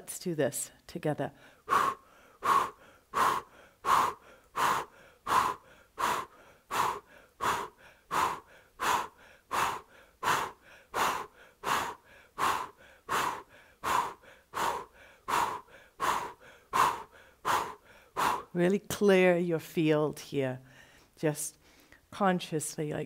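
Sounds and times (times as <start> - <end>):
woman breathing forcefully: 1.3 - 18.6, 20.7 - 22.0.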